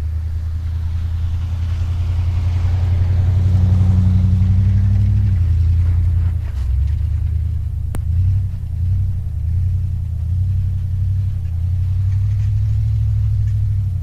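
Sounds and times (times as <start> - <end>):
car engine exhaust rumble: 0.0 - 14.0.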